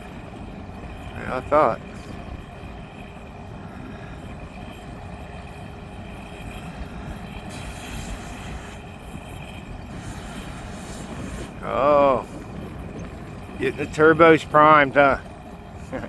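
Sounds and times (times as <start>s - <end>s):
outdoor noise haze: 0.0s - 16.0s.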